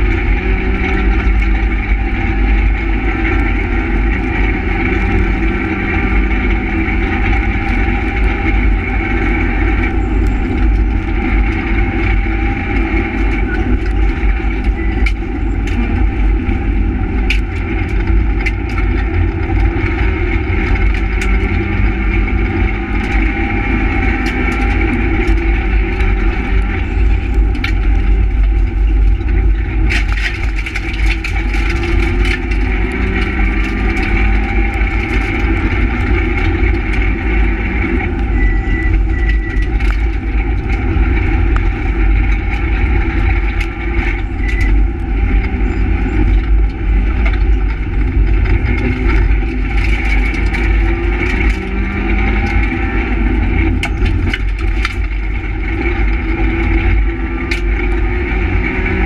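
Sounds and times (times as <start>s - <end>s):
rally car engine revving: 0.0s - 59.0s
road and tyre rumble: 0.0s - 59.0s.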